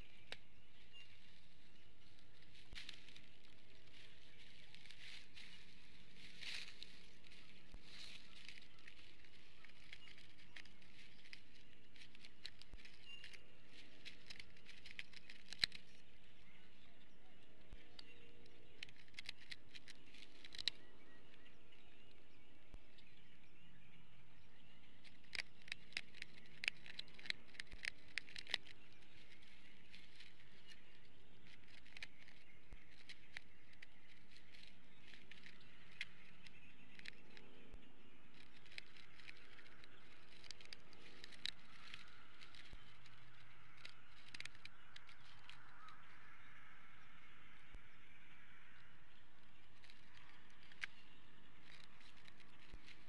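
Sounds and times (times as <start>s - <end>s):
sticks crackling and clicking: 0.0s - 23.1s, 24.8s - 46.7s, 48.7s - 53.0s.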